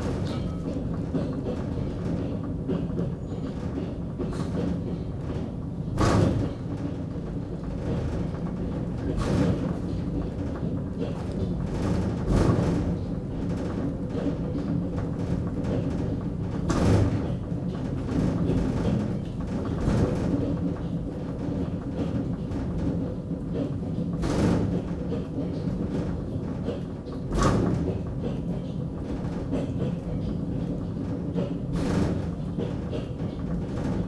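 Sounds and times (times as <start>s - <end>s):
heavy thump and rush of noise: 0.0s - 34.0s
railway car rumble and hum: 0.0s - 34.0s.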